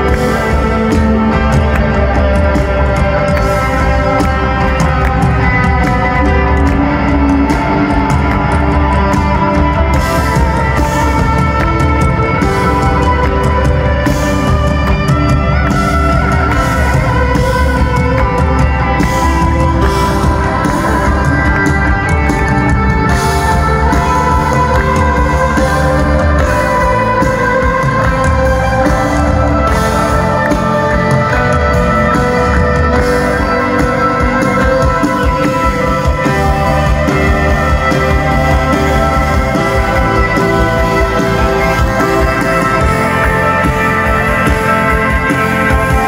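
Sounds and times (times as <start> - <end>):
electric guitar: 0.0 - 46.0
live rock band playing: 0.0 - 46.0.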